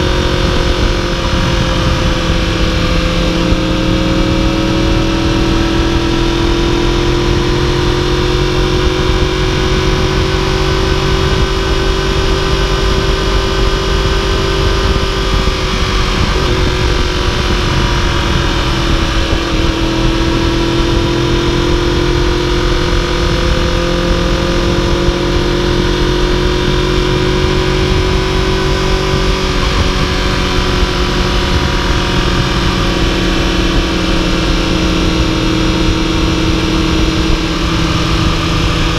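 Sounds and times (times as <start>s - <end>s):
motorcycle engine cruising: 0.0s - 38.9s
wind rush: 0.0s - 38.9s.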